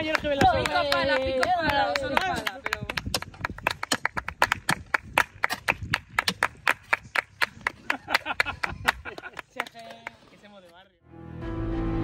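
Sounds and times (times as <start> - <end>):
people clapping: 0.0 - 10.5.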